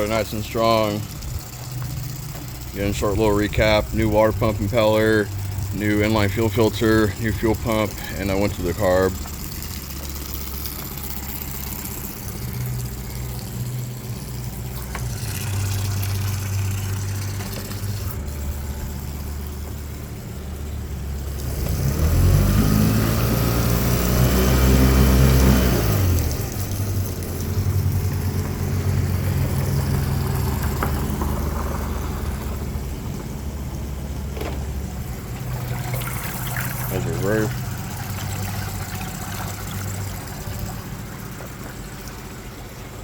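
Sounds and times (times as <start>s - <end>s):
outboard engine idling and revving: 0.0s - 43.0s.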